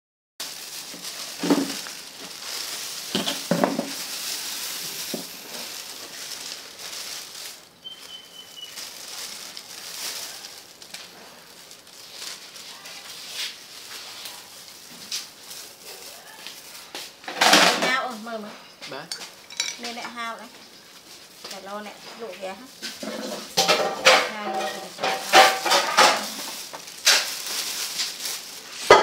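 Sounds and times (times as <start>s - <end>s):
plastic bag crinkling: 0.4s - 29.0s.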